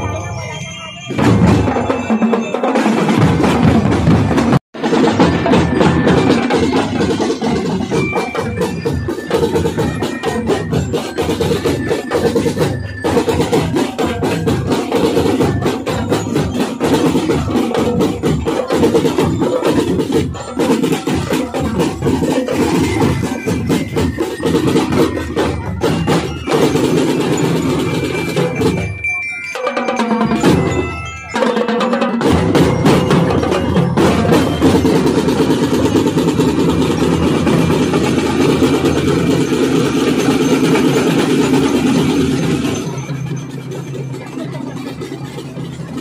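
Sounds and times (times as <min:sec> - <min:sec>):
bell-lyre notes ringing: 0:00.0 - 0:46.0
snare tenor and bass drums: 0:01.2 - 0:29.0, 0:30.3 - 0:42.9.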